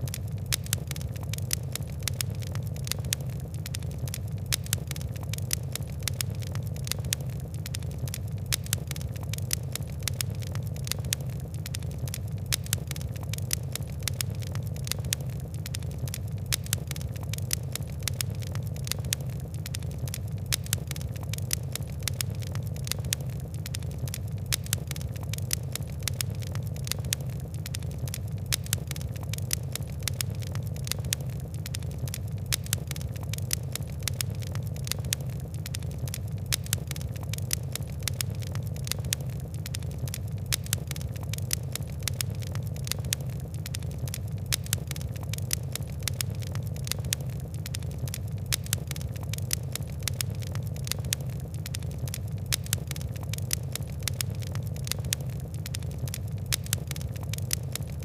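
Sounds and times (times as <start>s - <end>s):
fire crackling: 0.0s - 58.0s.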